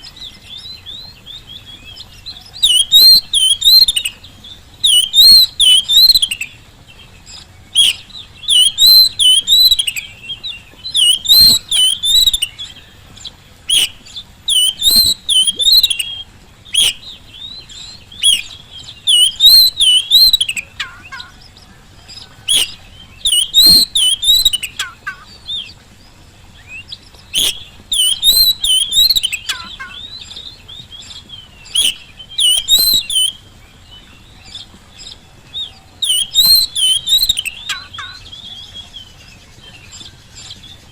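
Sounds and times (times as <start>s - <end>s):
bird singing warbling whistles: 0.0s - 6.6s, 7.6s - 13.0s, 13.6s - 21.5s, 22.2s - 25.8s, 26.6s - 40.9s.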